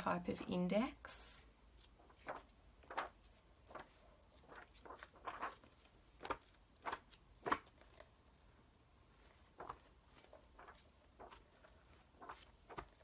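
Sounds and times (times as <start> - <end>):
magazine pages turning: 1.8 - 8.5, 9.1 - 13.0.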